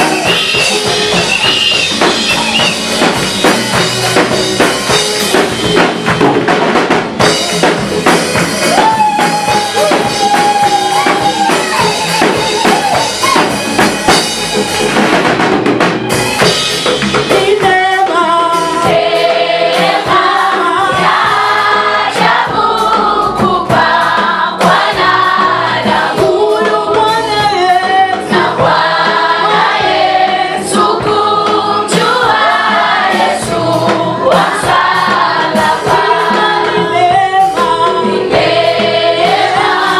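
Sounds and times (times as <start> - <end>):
drum kit: 0.0 - 39.9
gospel choir singing: 0.0 - 39.9.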